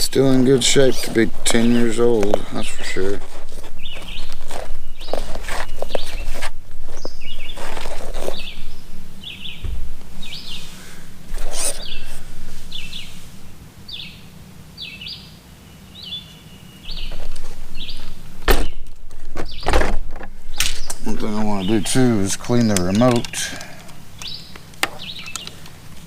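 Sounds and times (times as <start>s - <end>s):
bird chirping: 0.0s - 13.2s, 13.8s - 25.8s.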